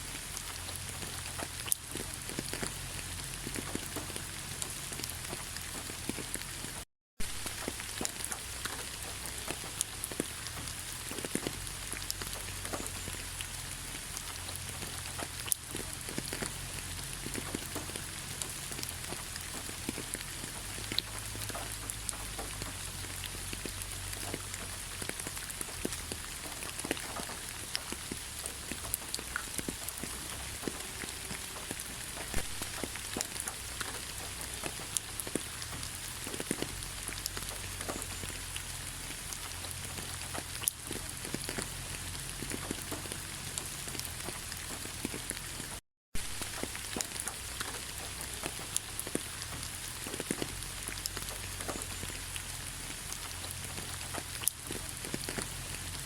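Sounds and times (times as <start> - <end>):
raindrops ticking: 0.0 - 56.0
steady rain in a forest: 0.0 - 56.0.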